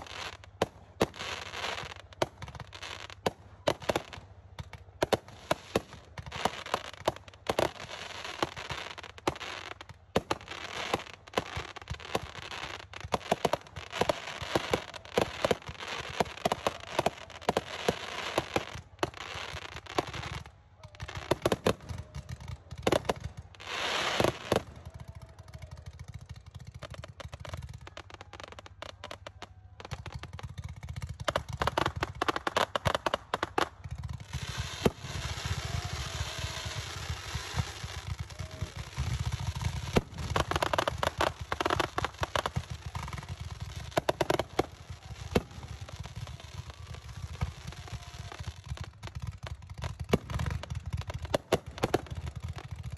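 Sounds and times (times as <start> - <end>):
fireworks banging and crackling: 0.0 - 52.9.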